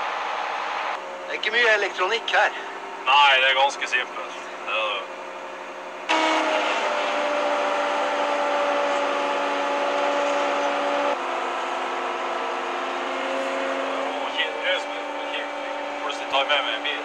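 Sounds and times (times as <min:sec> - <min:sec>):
diesel engine running steadily: 0:01.0 - 0:17.0.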